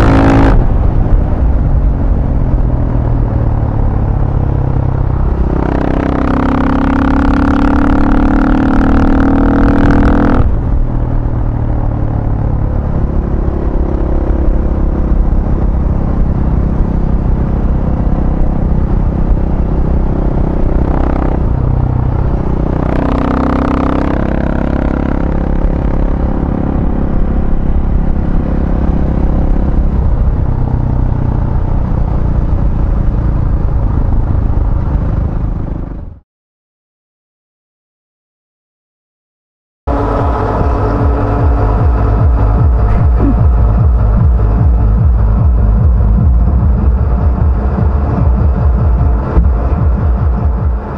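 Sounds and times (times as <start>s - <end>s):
vehicle engine accelerating: 0.0s - 36.2s, 39.9s - 50.9s
wind and road noise rumble: 0.0s - 36.2s, 39.9s - 50.9s.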